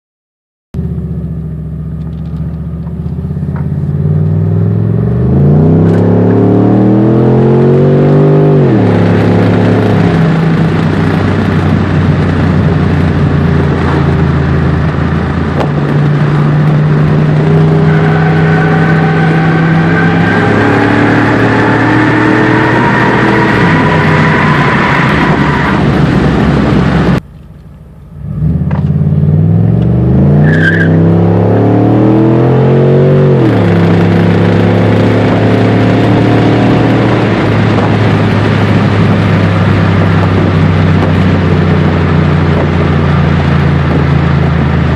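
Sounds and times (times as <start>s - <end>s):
car engine accelerating: 0.8s - 44.9s.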